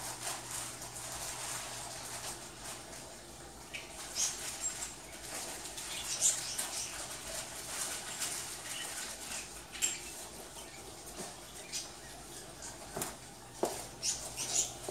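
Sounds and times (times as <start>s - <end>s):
rustling and scraping: 0.0s - 14.9s.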